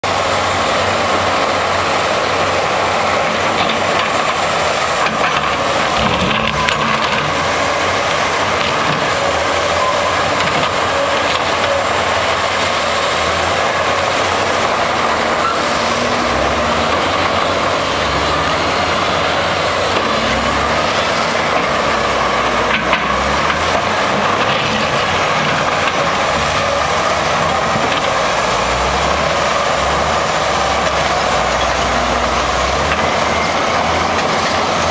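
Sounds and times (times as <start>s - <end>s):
excavator engine and hydraulics: 0.0s - 34.9s.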